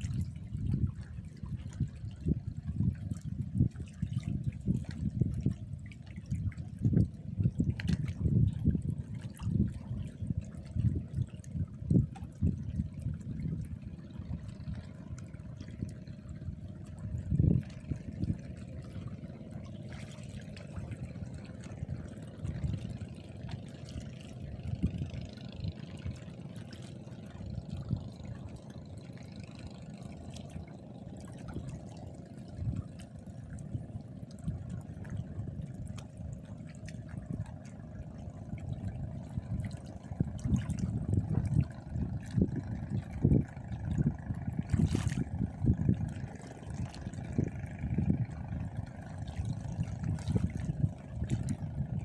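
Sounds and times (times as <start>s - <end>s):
water lapping and sloshing: 0.0s - 52.0s.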